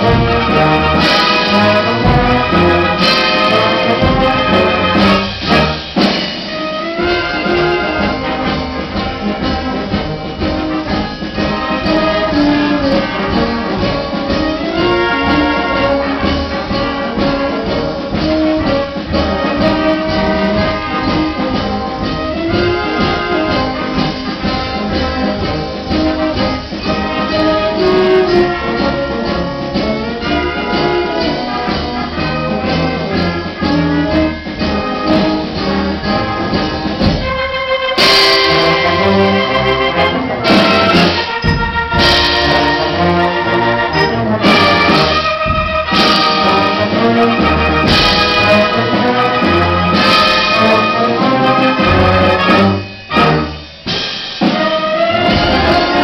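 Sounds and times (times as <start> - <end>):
brass instruments: 0.0 - 56.0
concert band playing: 0.0 - 56.0.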